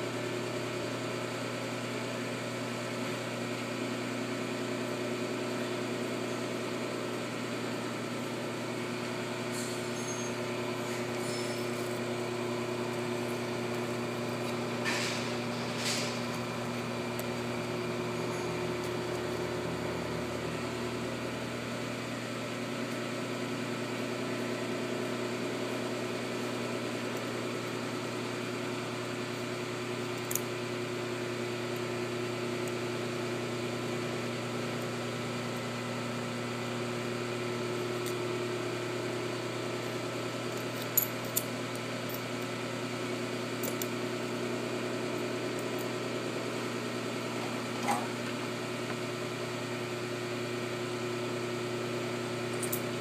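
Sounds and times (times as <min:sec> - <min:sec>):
mechanical hum of shop equipment: 0:00.0 - 0:53.0.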